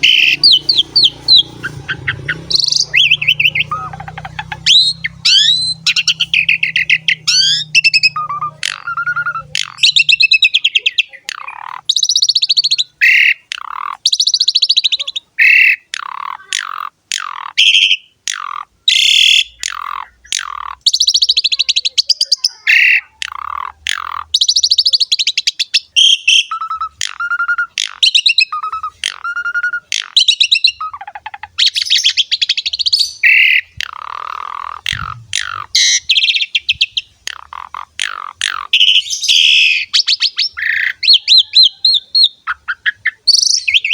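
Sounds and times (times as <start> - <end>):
starling singing: 0.0 - 43.9.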